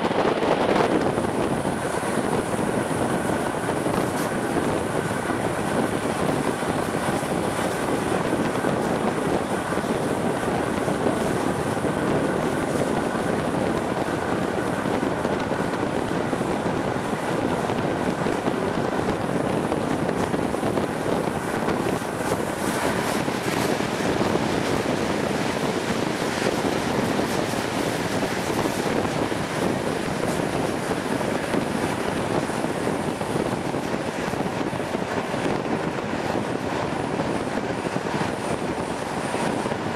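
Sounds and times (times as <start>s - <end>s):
train wheels rumbling on rails: 0.0s - 39.9s
wind rushing past microphone: 0.0s - 39.9s.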